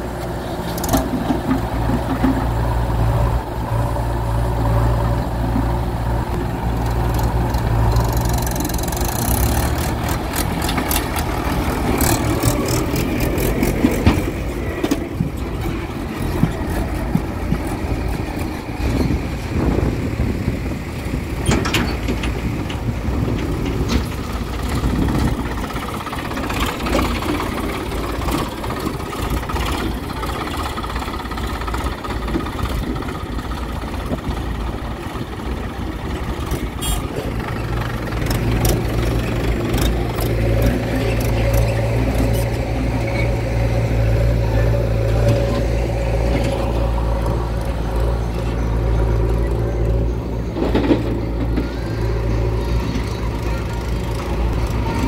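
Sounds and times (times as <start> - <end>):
deep engine drone: 0.0 - 55.0
diesel engines running: 0.0 - 55.0.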